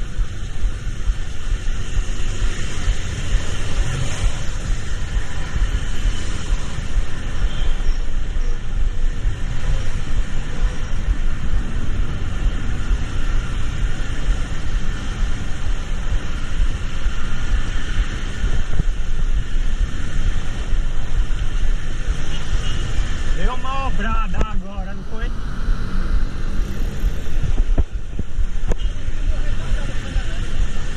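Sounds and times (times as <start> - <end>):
engine and road rumble: 0.0 - 30.9.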